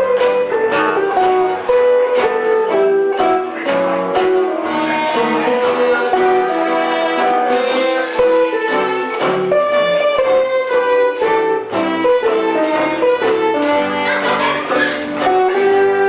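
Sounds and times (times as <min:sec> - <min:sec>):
guitar accompaniment: 0:00.0 - 0:16.0
violin playing quick melody: 0:00.0 - 0:16.0.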